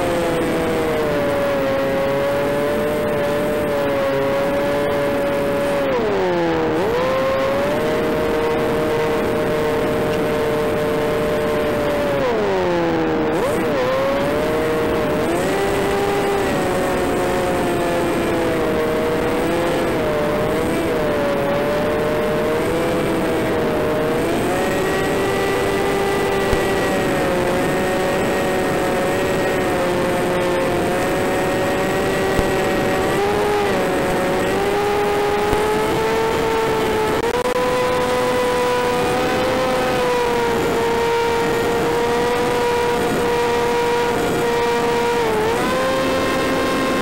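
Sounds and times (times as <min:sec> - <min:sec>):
electric motor and propeller whining: 0:00.0 - 0:47.0.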